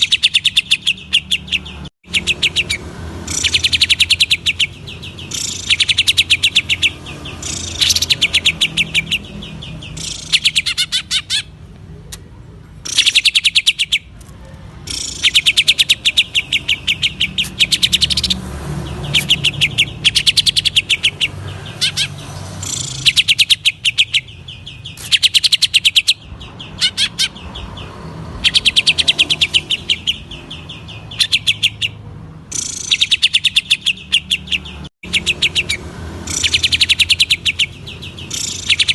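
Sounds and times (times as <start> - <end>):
bird singing rattling bursts: 0.0 - 11.6, 12.8 - 38.9.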